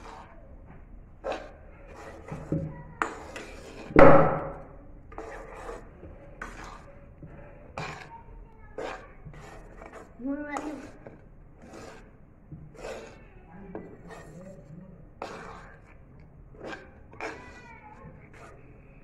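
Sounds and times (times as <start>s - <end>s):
metal spoon scraping pan: 1.2s - 19.0s.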